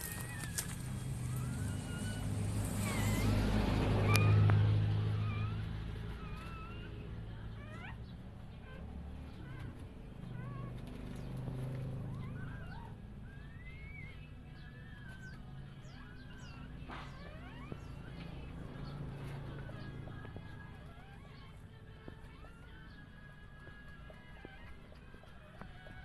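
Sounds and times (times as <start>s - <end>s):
dog whimpering: 0.0s - 10.9s, 11.8s - 26.0s.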